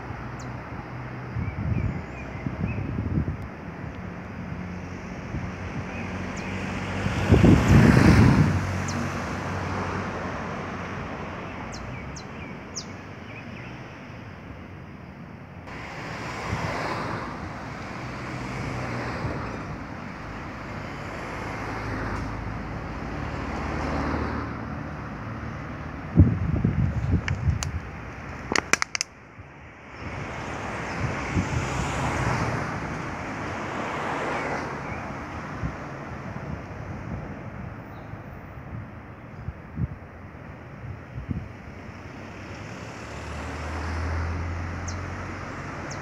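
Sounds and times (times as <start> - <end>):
cars passing by: 0.0 - 46.0.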